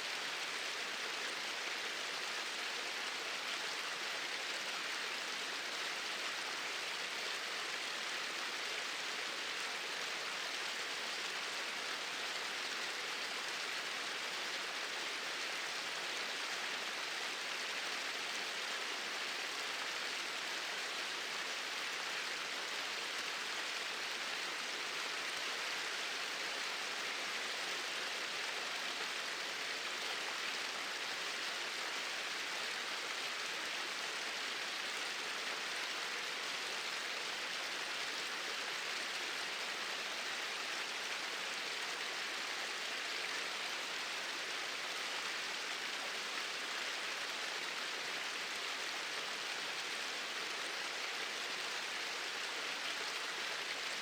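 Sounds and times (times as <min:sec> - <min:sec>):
small waterfall pouring: 0:00.0 - 0:54.0.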